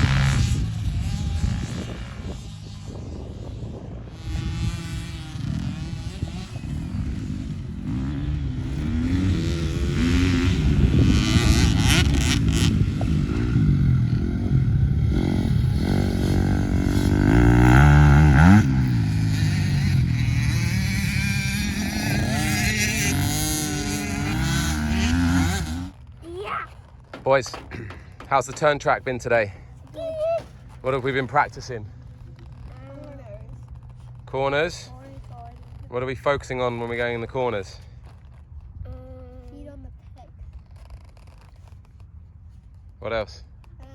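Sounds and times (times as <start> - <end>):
dirt bike engines revving: 0.0 - 40.3.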